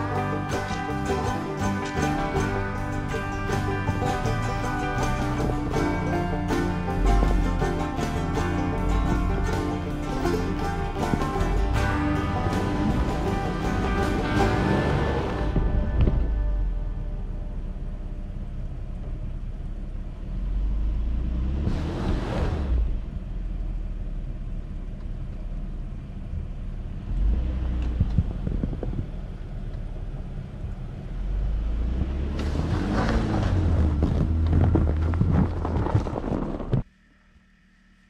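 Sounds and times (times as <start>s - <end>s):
engine running and revving: 0.0s - 38.0s.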